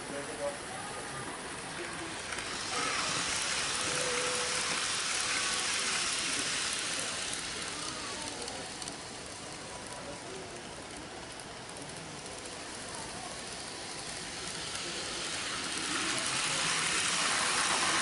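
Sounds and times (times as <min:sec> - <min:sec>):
model train wheels on rail: 0:00.0 - 0:18.0.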